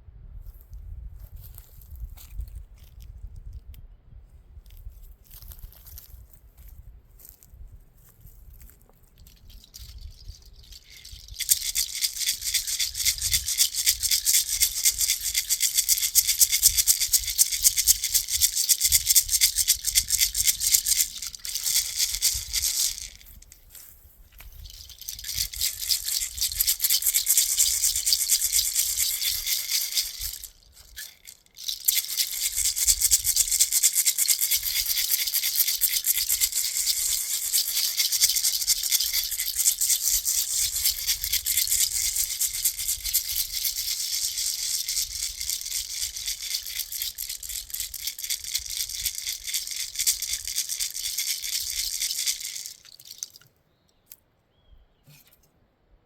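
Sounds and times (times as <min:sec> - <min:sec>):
shaker shaken fast: 0:04.7 - 0:07.4, 0:08.0 - 0:53.4.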